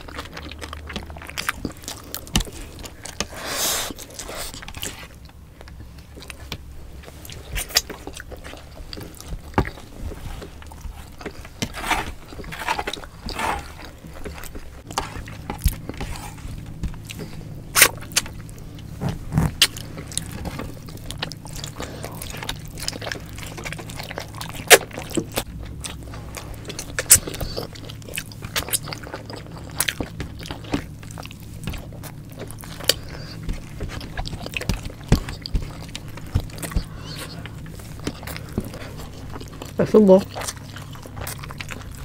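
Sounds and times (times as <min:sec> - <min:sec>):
people chewing food: 0:00.0 - 0:42.0.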